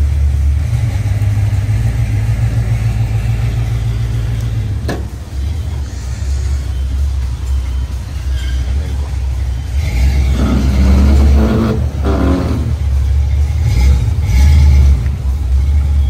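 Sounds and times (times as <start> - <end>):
car engine rumbling past: 0.0 - 16.0.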